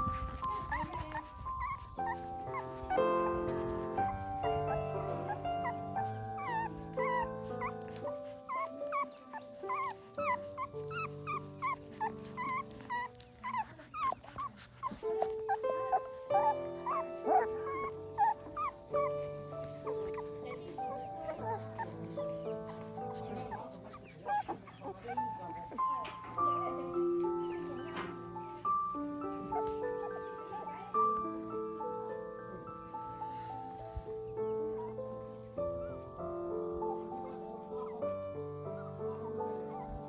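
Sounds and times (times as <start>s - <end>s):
music of held chords: 0.0s - 40.0s
puppies whimpering and squeaking: 0.0s - 40.0s.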